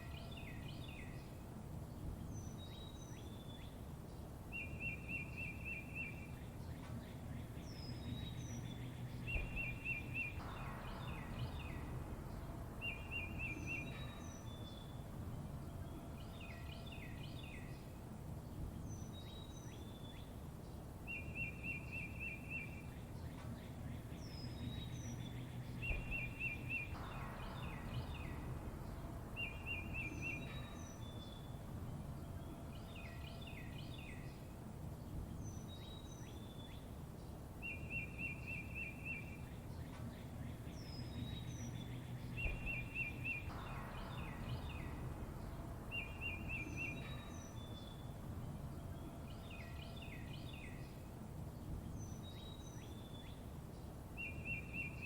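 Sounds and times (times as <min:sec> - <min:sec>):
birds singing repeated notes: 0:00.0 - 0:55.0
low outdoor rumble: 0:00.0 - 0:55.0.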